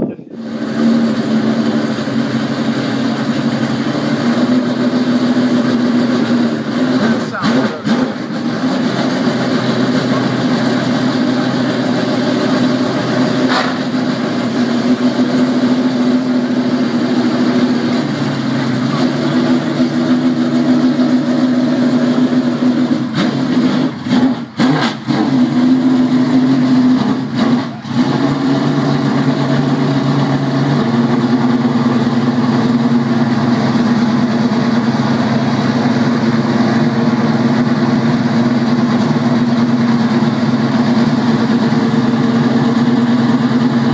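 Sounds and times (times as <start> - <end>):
racing car engine idling: 0.0 - 43.9.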